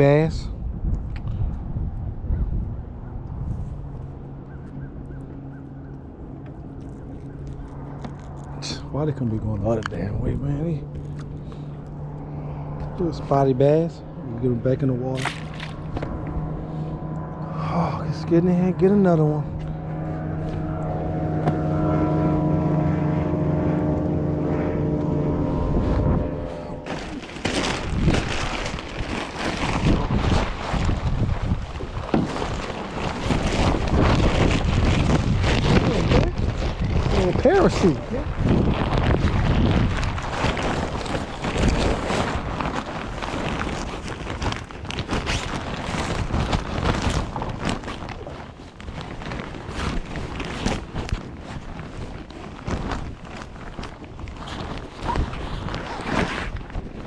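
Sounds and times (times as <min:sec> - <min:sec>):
wind buffeting microphone: 0:00.0 - 0:57.0
boat motor humming: 0:02.0 - 0:55.1.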